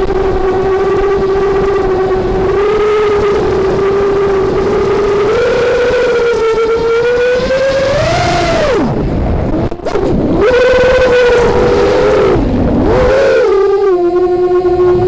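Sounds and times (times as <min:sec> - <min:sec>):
drone motors and propellers whining: 0:00.0 - 0:15.0
wind rushing: 0:00.0 - 0:15.0.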